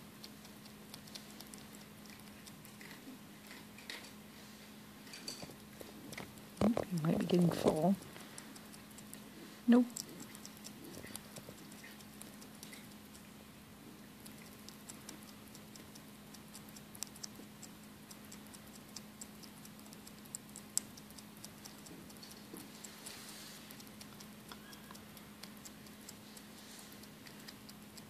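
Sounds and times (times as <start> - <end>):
bat chewing small clicks: 0.0 - 4.2, 5.0 - 28.0
faint steady hum: 0.0 - 28.0.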